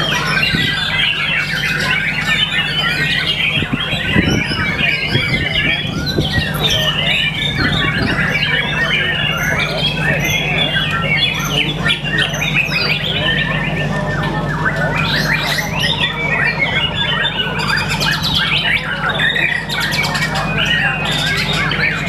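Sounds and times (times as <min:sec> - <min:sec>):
bird singing whistles and trills: 0:00.0 - 0:22.0.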